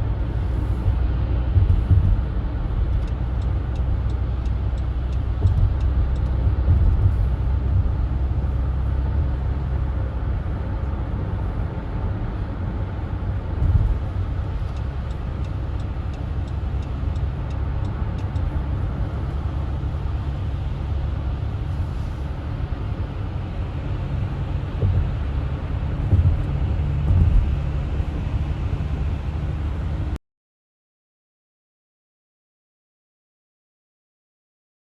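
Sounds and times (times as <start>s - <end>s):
car road and engine rumble: 0.0s - 30.2s.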